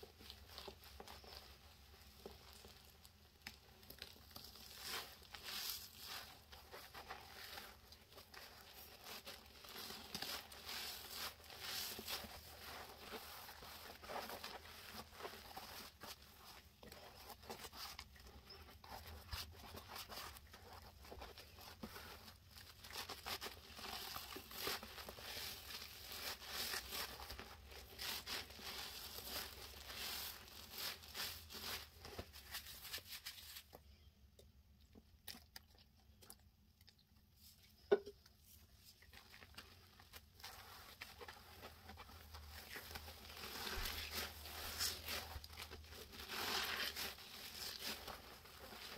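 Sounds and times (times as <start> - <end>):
sponges squeezed in soapy lather: 0.2 - 33.6, 38.8 - 48.9.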